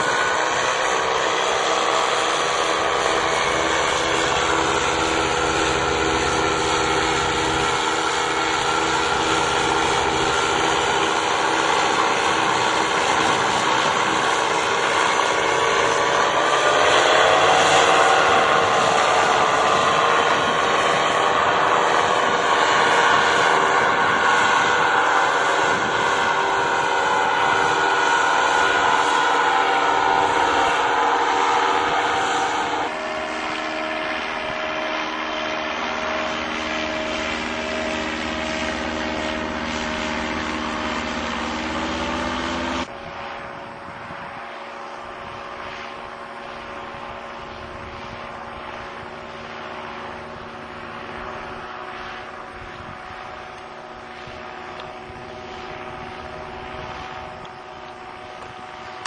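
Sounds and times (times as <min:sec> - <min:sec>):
paramotor engine and propeller drone: 0:00.0 - 0:59.0.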